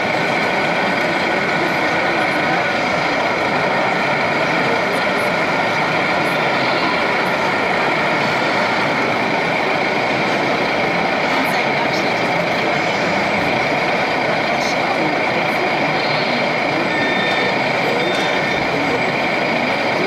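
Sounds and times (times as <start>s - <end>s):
constant running noise: 0.0s - 20.0s
many voices talking: 0.0s - 20.0s.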